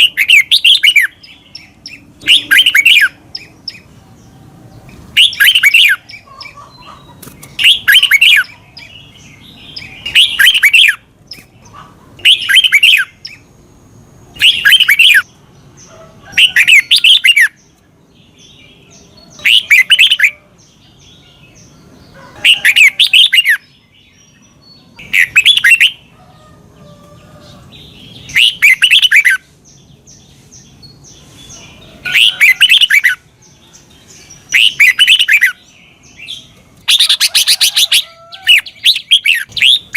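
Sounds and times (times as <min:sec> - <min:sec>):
bulbul singing warbled phrases: 0:00.0 - 0:26.2, 0:27.5 - 0:39.9.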